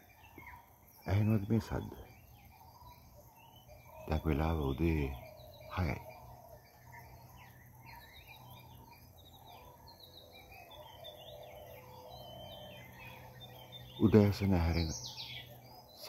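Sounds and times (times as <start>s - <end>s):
small birds chirping and whistling: 0.0s - 16.0s
soft low bird calls: 0.0s - 16.0s
steady low hum: 0.0s - 16.0s.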